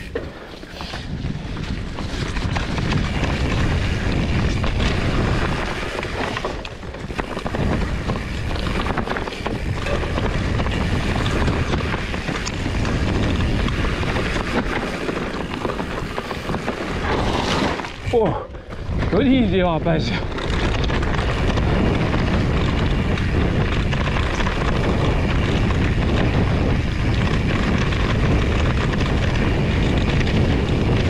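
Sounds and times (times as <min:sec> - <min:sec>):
bike clicks and rattles: 0:00.0 - 0:31.0
mountain bike rumbling on trail: 0:00.0 - 0:31.0
wind buffeting microphone: 0:00.0 - 0:31.0.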